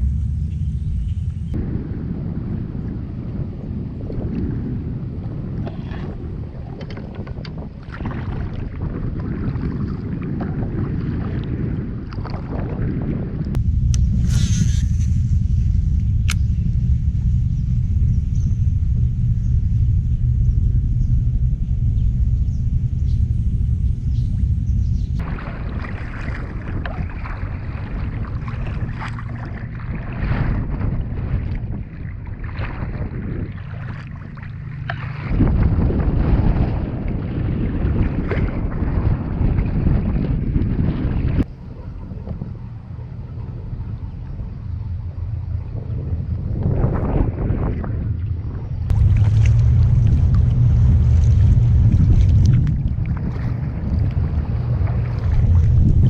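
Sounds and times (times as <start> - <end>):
wind buffeting microphone: 0.0 - 56.0
water lapping against kayak hull: 2.3 - 56.0.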